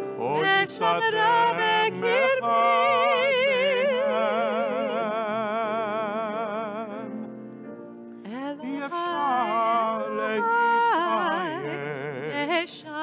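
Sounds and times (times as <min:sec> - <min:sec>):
woman and man singing together: 0:00.0 - 0:06.4, 0:08.3 - 0:13.0.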